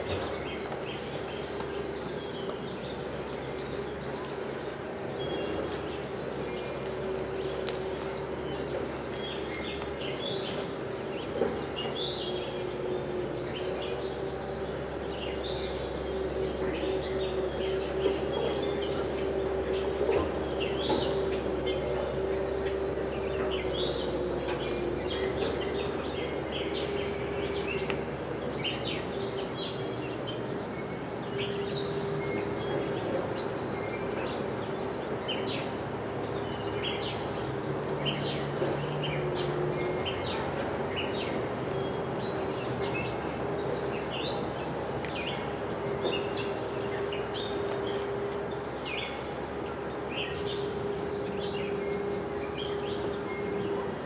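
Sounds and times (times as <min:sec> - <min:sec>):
outdoor background noise: 0:00.0 - 0:54.0
steady low hum: 0:00.0 - 0:54.0.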